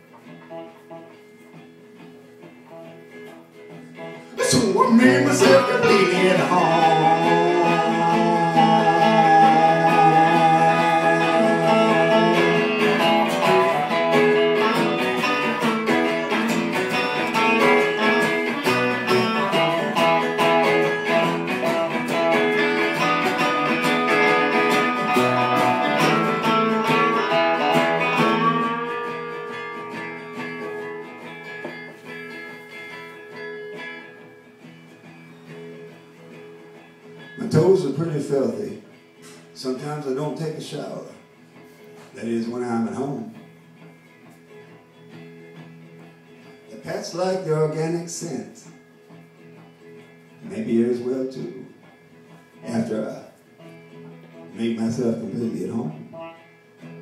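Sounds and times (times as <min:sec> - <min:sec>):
acoustic guitar strummed: 0:00.0 - 0:57.0
electric guitar playing: 0:00.0 - 0:57.0.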